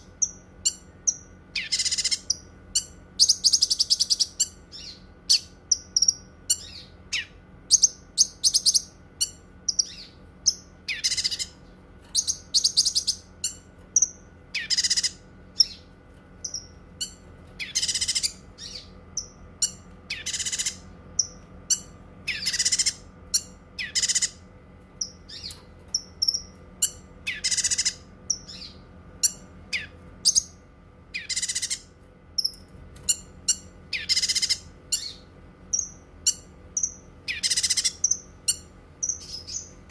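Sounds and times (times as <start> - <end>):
bird singing harsh buzzy phrases: 0.0 - 39.9.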